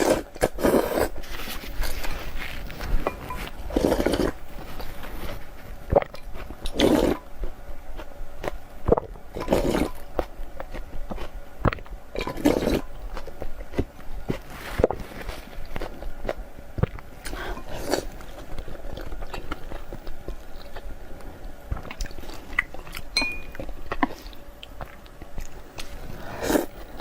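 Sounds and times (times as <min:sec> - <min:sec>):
wet chewing with mouth clicks: 0:00.0 - 0:27.0.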